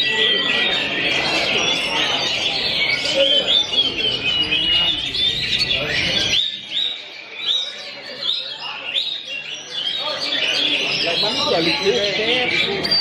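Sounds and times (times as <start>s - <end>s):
magpie-robin singing whistled song: 0.0s - 13.0s.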